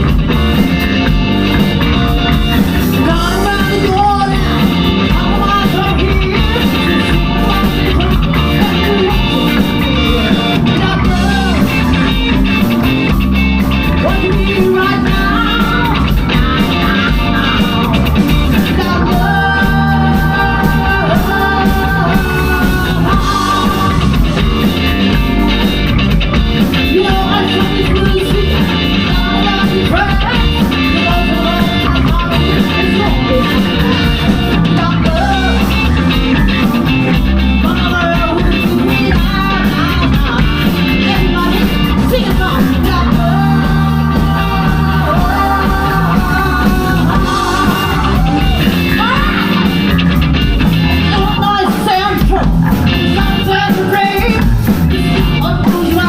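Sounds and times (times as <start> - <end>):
person singing lead vocal: 0.0 - 13.1, 13.7 - 25.6, 26.6 - 56.0
bass guitar: 0.0 - 56.0
drums: 0.0 - 56.0
electric guitar: 0.0 - 56.0.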